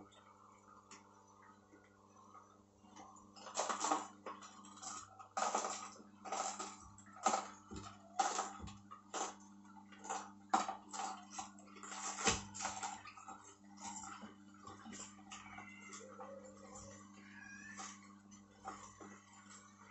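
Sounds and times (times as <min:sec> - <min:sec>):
juicer motor hum: 0:00.0 - 0:19.9.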